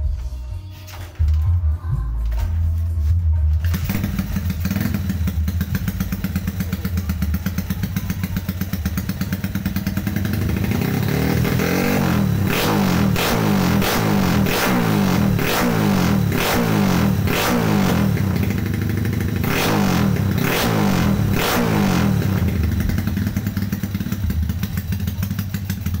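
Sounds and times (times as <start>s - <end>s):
motorcycle engine revving: 3.6s - 26.0s.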